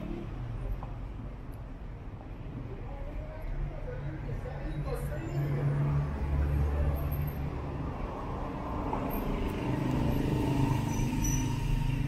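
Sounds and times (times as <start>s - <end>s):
vehicle engines humming: 0.0s - 12.0s.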